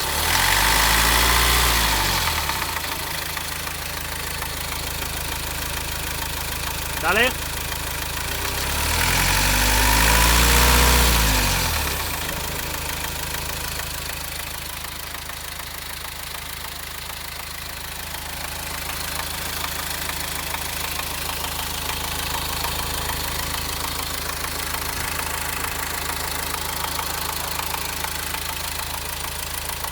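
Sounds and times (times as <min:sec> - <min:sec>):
diesel engine revving and idling: 0:00.0 - 0:29.9
engine clattering: 0:00.0 - 0:29.9.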